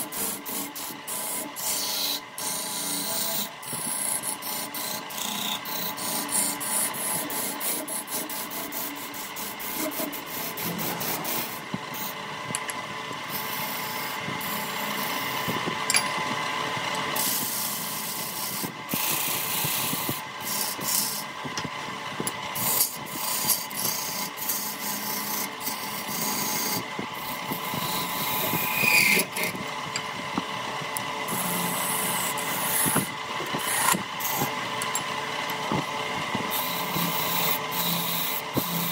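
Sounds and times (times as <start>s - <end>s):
lathe hum: 0.0s - 38.9s
tool scraping spinning wood: 0.0s - 38.9s.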